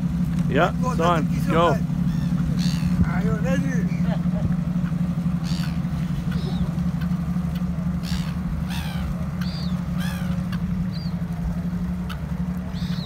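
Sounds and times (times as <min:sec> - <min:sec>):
boat engine droning: 0:00.0 - 0:13.0
gulls calling: 0:00.0 - 0:13.0.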